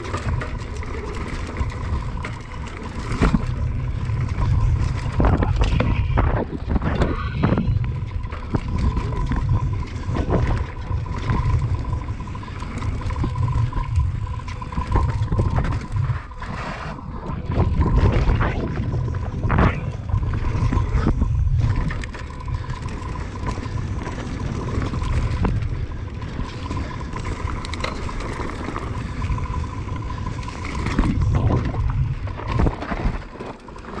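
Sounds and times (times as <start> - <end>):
bike rattles and knocks: 0.0 - 16.4, 17.4 - 34.0
bike tyre noise: 0.0 - 34.0
wind rumble on microphone: 0.0 - 34.0.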